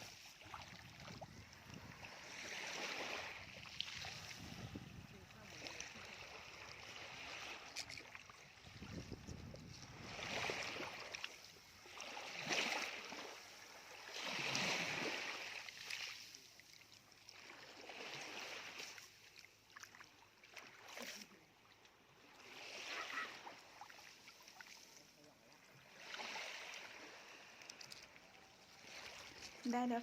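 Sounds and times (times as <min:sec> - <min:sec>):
small waves washing on shore: 0:00.0 - 0:30.0.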